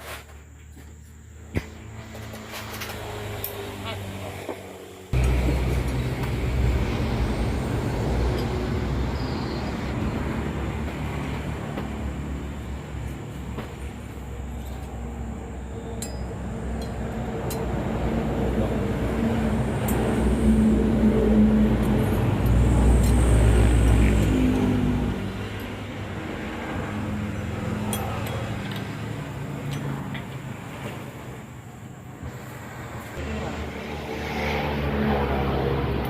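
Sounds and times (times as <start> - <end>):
heavy motor rumble: 1.3 - 36.0.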